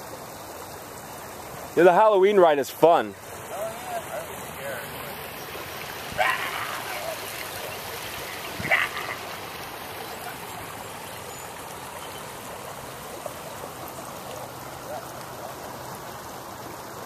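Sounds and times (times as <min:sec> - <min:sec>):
river water rushing over concrete: 0:00.0 - 0:17.0.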